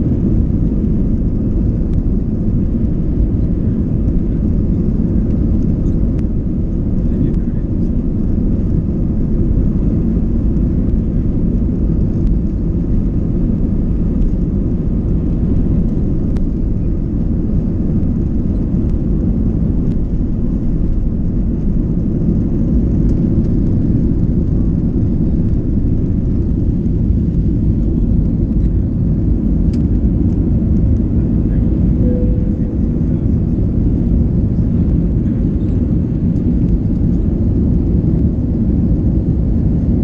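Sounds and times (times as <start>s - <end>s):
aeroplane engines rumbling: 0.0s - 40.0s.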